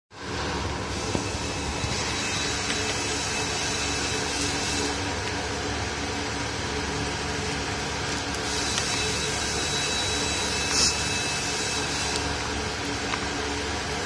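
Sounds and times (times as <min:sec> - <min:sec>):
machinery hum: 0:00.1 - 0:14.0.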